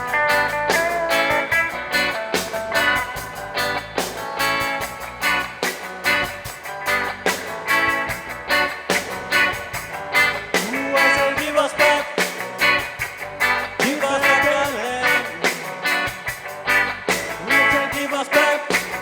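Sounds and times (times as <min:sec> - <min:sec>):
guitar: 0:00.0 - 0:19.0
reggae band playing live: 0:00.0 - 0:19.0.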